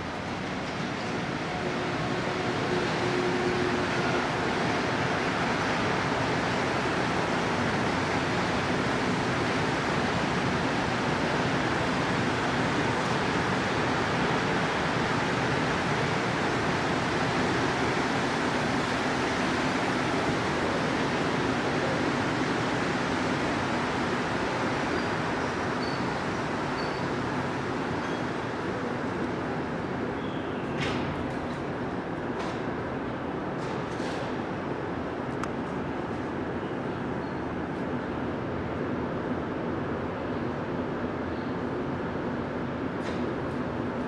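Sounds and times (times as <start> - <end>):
subway train rumble: 0.0 - 44.0.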